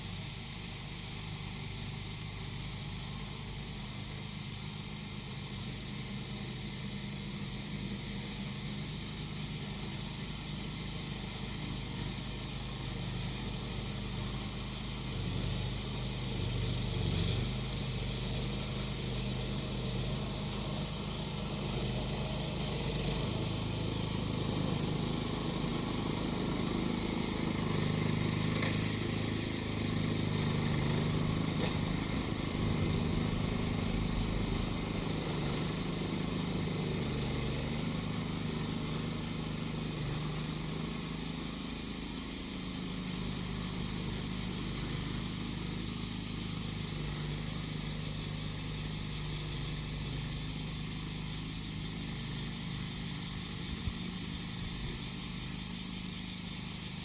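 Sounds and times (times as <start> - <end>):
cicadas buzzing: 0.0 - 57.0
grass cutter engine running: 0.0 - 57.0.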